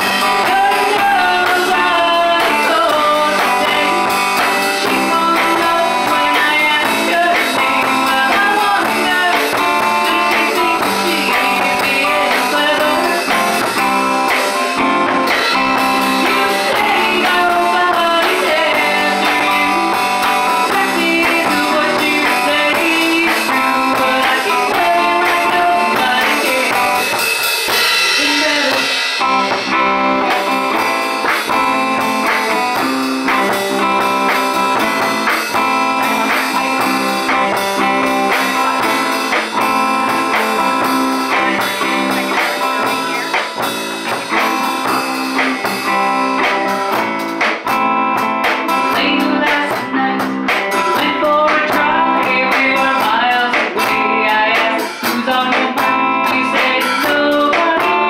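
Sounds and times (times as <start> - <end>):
woman singing: 0.0 - 14.5, 15.3 - 27.3, 27.9 - 30.8, 31.5 - 43.2, 48.4 - 58.0
bass guitar: 0.0 - 58.0
drum kit: 0.0 - 58.0
electric guitar: 0.0 - 58.0.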